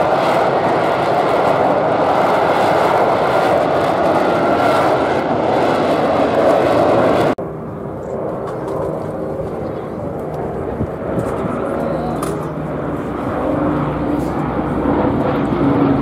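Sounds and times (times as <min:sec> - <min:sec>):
loud jet noise: 0:00.0 - 0:16.0.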